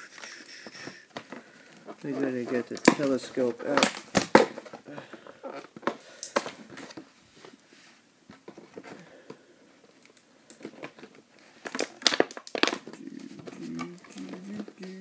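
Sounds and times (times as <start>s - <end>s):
plastic and cardboard crinkling: 0.0s - 7.6s, 8.3s - 15.0s.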